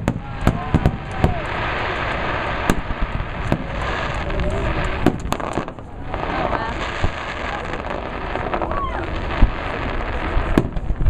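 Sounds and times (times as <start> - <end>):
distant fireworks bursts: 0.0 - 11.0
fireworks bangs: 0.0 - 11.0.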